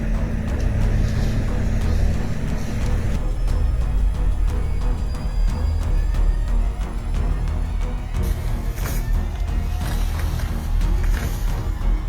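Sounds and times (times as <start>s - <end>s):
music with heavy bass: 0.0s - 12.0s.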